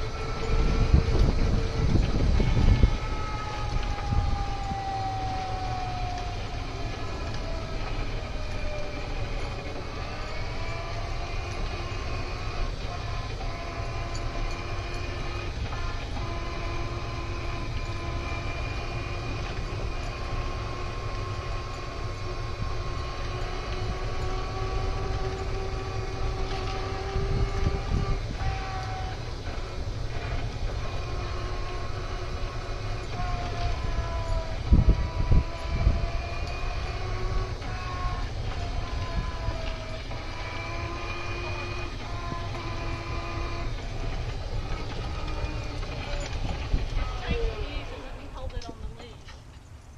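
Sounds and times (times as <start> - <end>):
golf cart driving: 0.0 - 49.9.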